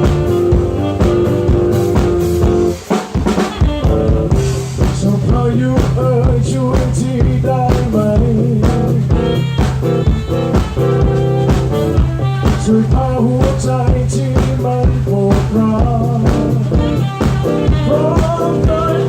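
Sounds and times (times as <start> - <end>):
band playing drums bass guitar: 0.0 - 19.0.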